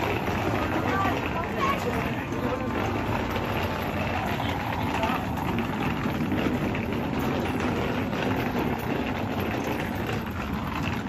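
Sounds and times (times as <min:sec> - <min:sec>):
footsteps: 0:00.0 - 0:11.0
suitcase wheels rolling on concrete: 0:00.0 - 0:11.0.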